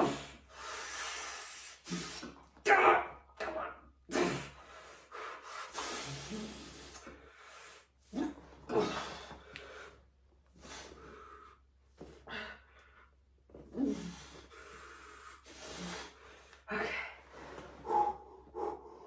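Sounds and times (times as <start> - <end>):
man breathing hard: 0.0 - 2.4, 4.4 - 8.1, 8.7 - 13.2, 13.8 - 19.0.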